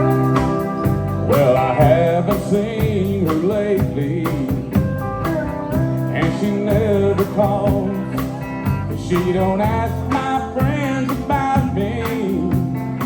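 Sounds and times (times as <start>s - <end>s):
country band playing: 0.0s - 13.0s
sliding lead melody: 0.0s - 13.0s.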